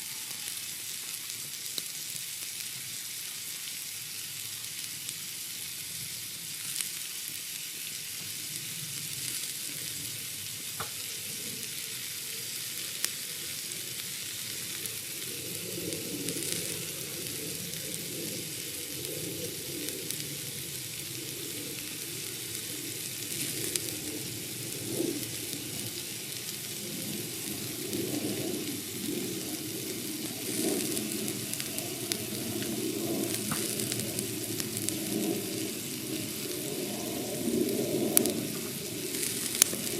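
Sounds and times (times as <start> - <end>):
steak sizzling with pops: 0.0 - 39.9.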